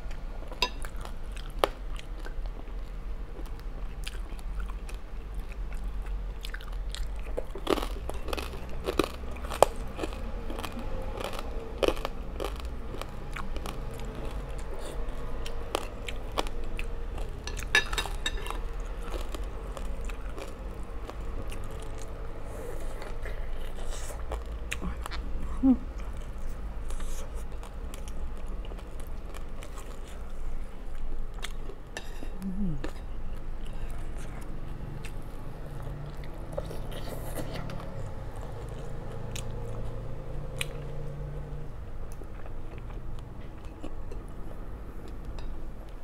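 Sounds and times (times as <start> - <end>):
chewing and crunching: 0.0 - 46.0.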